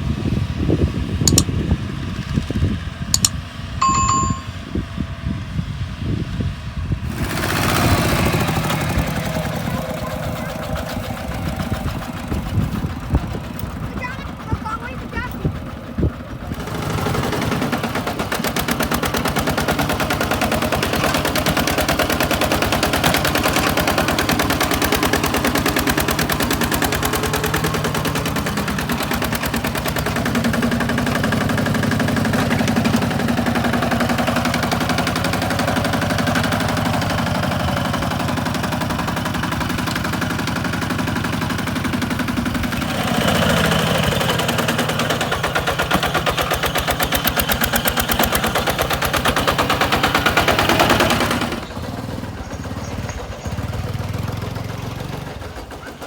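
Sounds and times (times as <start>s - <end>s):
diesel tractor engine knocking: 0.2s - 4.5s, 7.2s - 56.0s.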